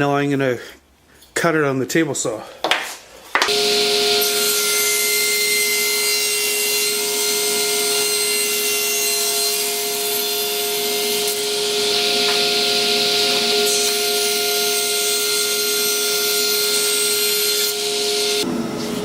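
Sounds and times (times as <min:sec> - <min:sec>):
table saw cutting wood: 0:03.5 - 0:19.0.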